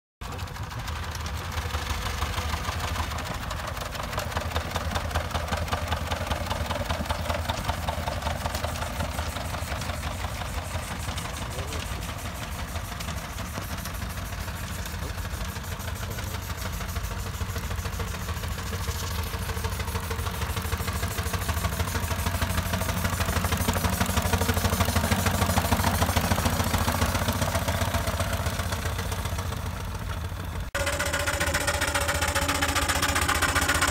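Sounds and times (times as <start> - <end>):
miniature steam engines chuffing: 0.2 - 33.9.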